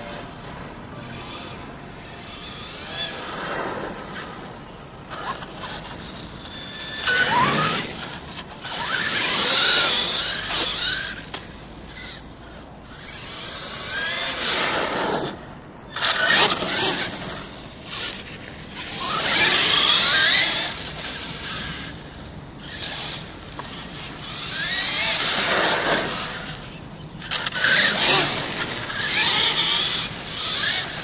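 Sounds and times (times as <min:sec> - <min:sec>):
rc truck electric motor whining: 0:00.0 - 0:31.0.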